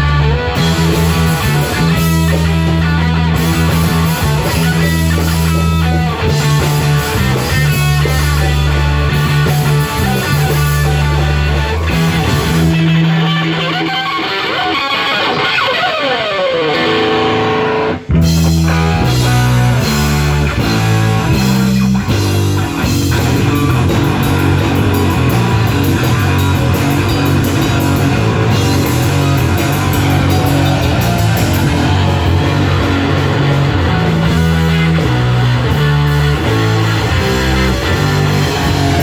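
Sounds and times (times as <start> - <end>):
guitar notes sliding down: 0.0 - 39.0
rock band playing live: 0.0 - 39.0.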